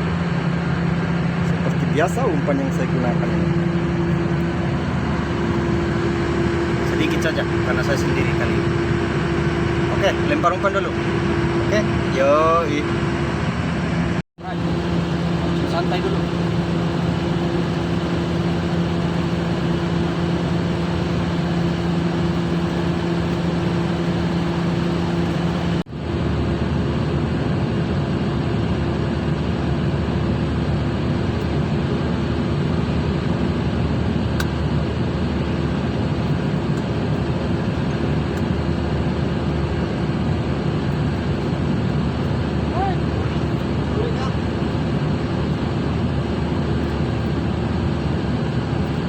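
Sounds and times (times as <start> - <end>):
ship machinery drone: 0.0 - 49.0.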